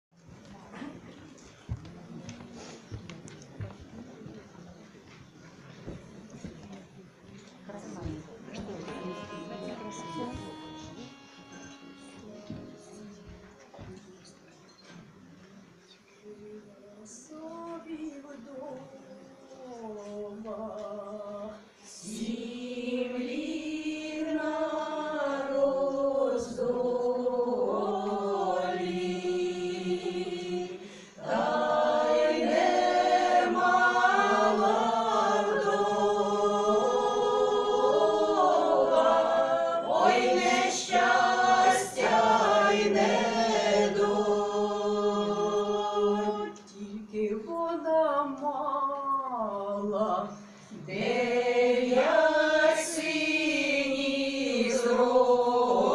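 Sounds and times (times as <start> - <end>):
women's choir singing folk song: 7.9 - 13.9, 17.2 - 55.9.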